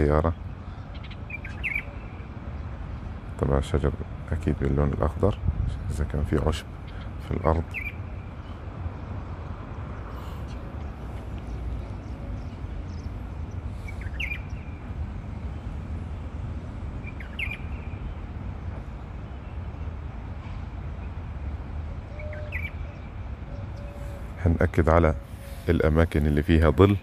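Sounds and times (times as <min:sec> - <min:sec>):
bird chirping: 0:00.0 - 0:03.3, 0:06.4 - 0:27.0.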